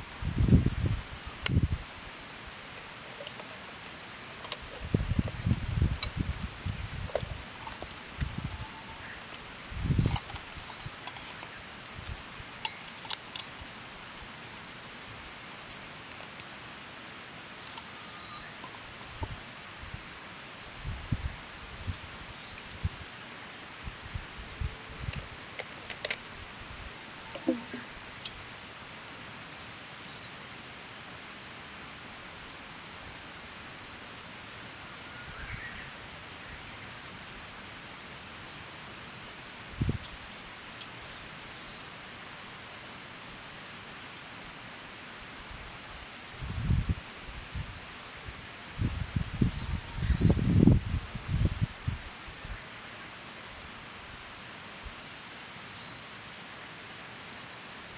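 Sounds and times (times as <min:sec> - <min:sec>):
wood fire hissing in a stove: 0:00.0 - 0:57.9.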